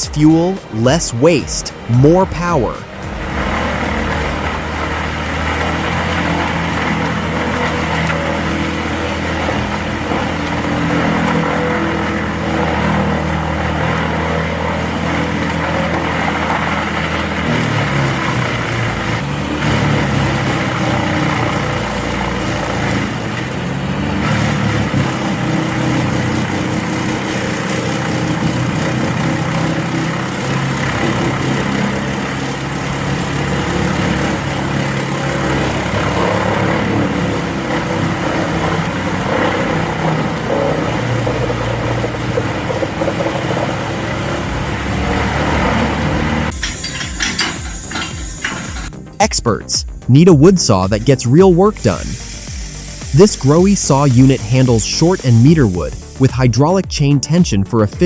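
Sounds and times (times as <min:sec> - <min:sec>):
wood chipper engine drone: 0:00.0 - 0:49.2, 0:49.8 - 0:56.5.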